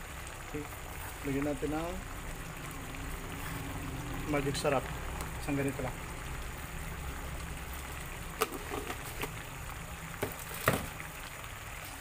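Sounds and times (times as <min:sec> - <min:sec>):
sauce simmering and bubbling: 0:00.0 - 0:12.0.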